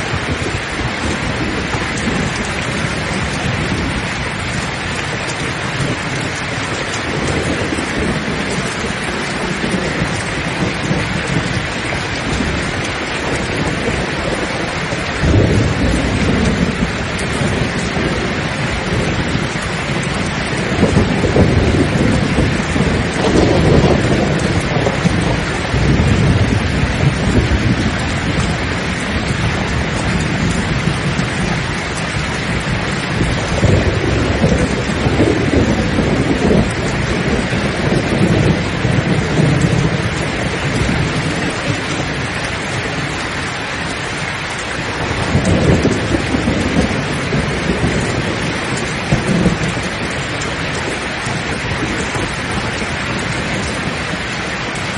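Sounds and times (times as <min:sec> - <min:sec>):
heavy rain: 0:00.0 - 0:54.9
rolling thunder: 0:00.0 - 0:54.9.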